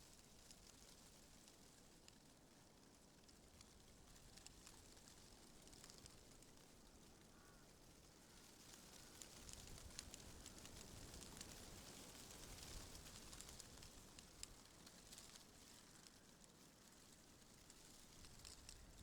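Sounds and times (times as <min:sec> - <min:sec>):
leaves rustling in wind: 0:00.0 - 0:19.0.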